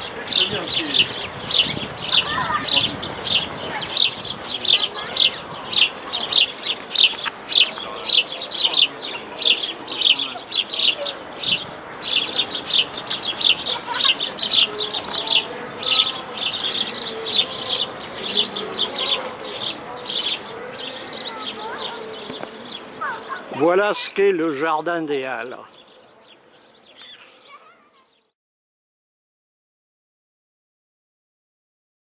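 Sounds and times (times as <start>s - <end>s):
small birds chirping: 0.0s - 28.3s.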